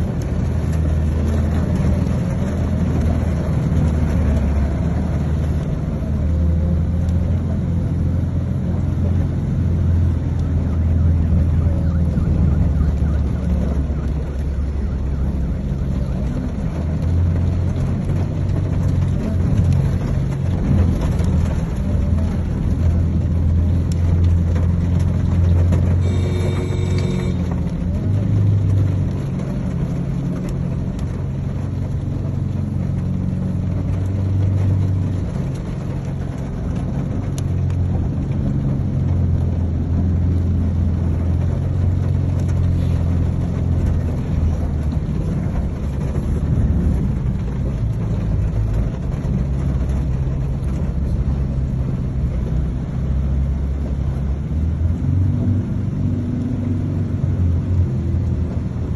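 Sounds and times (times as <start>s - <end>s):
car rumble from inside cabin: 0.0s - 58.9s.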